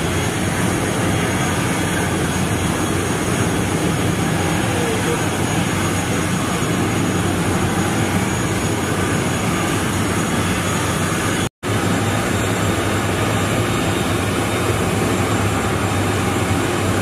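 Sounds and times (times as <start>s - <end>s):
turboprop engine idling: 0.0s - 17.0s.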